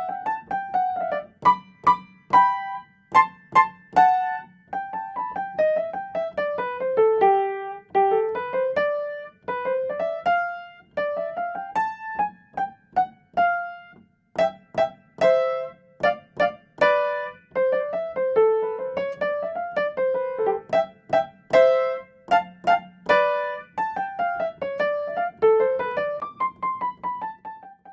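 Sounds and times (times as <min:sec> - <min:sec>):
solo piano melody: 0:00.0 - 0:27.9.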